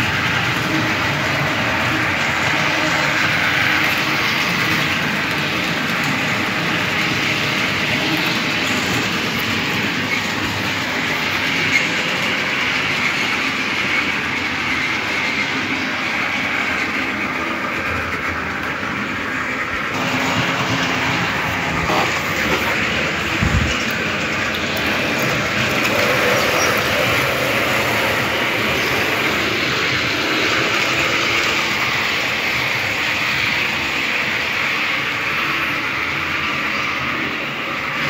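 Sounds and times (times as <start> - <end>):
model trains rolling on track: 0.0 - 38.0.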